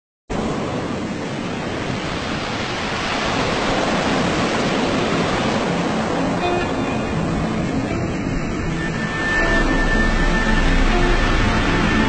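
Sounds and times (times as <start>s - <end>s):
breaking waves: 0.3s - 12.0s
wind: 0.3s - 12.0s.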